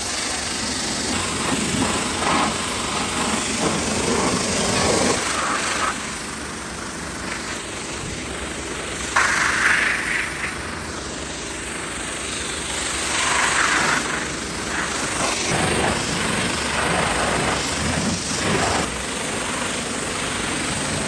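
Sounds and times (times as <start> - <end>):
car wash machinery running: 0.0 - 21.0
loud hissing surges: 0.0 - 21.0.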